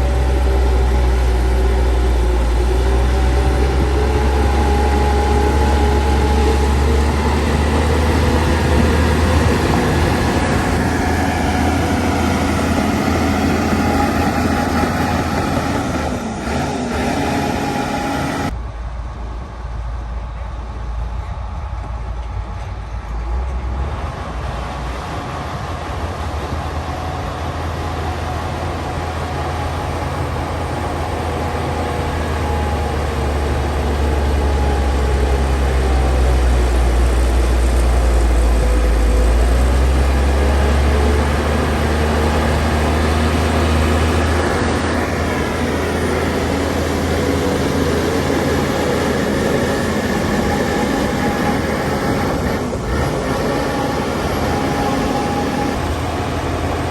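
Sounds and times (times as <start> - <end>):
diesel earthmoving machinery rumbling: 0.0 - 56.9.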